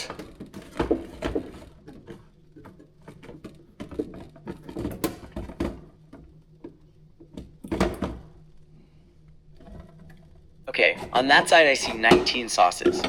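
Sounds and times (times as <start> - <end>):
refrigerator hum: 0.0 - 13.0.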